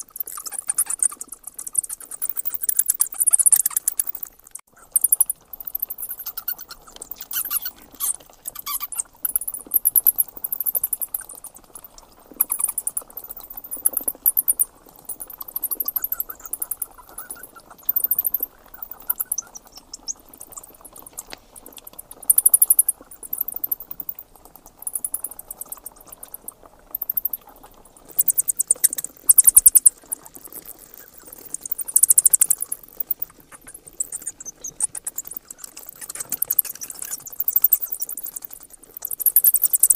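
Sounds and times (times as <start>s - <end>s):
fruit bats chattering and squeaking: 0.0s - 39.9s.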